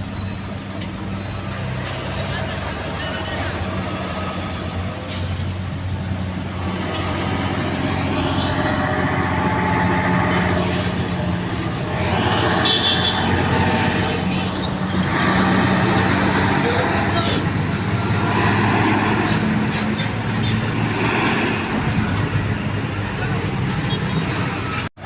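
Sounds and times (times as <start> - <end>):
heavy truck engine running: 0.0 - 24.9
road traffic noise: 0.0 - 25.0.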